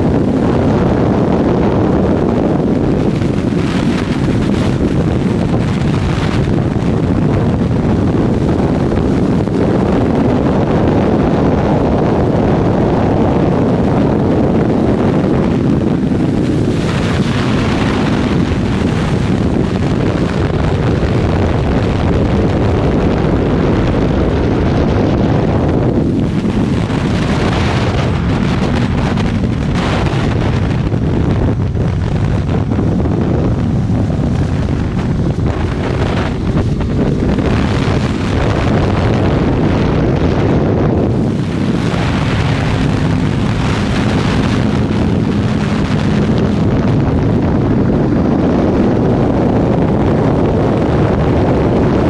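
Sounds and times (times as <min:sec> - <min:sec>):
motorcycle engine running: 0:00.0 - 0:52.0
wind rushing over microphone: 0:00.0 - 0:52.0.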